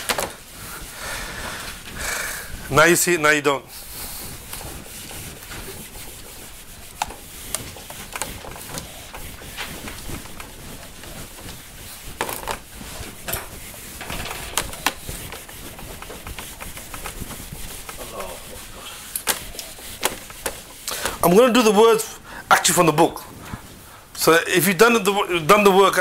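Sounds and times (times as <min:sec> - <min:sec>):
eraser rubbing on whiteboard: 0:00.0 - 0:22.2.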